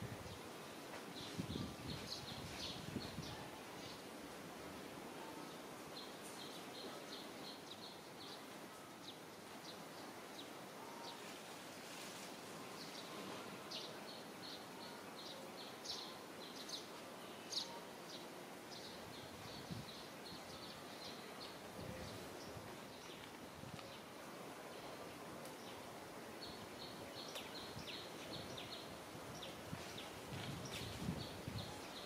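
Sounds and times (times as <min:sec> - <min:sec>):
steady low hiss: 0:00.0 - 0:32.0.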